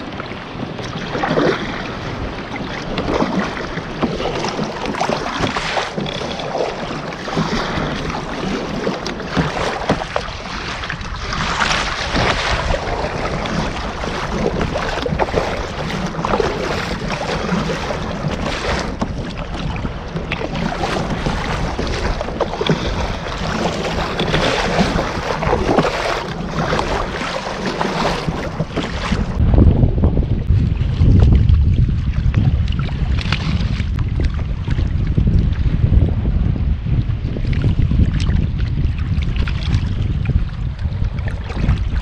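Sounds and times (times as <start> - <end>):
kayak paddle strokes in water: 0.0 - 42.0
water washing along hull: 0.0 - 42.0
wind buffeting microphone: 0.0 - 42.0.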